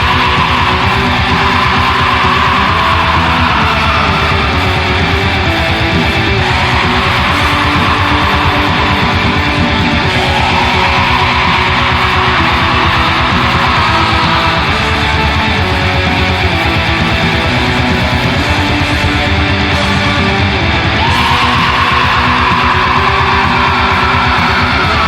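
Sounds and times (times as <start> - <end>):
distorted electric guitars: 0.0 - 25.0
fast drum beats: 0.0 - 25.0.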